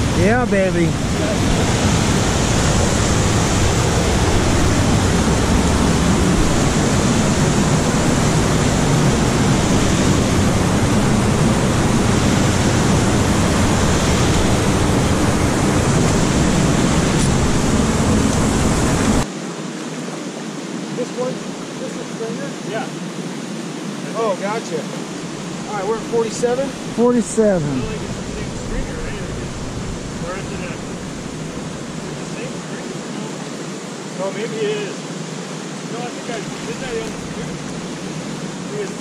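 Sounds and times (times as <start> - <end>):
creek water rushing: 0.0 - 39.0.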